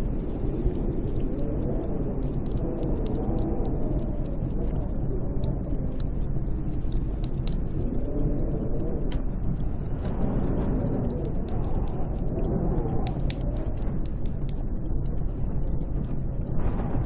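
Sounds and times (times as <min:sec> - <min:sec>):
faint crackles: 0:00.0 - 0:17.0
howling wind: 0:00.0 - 0:17.0.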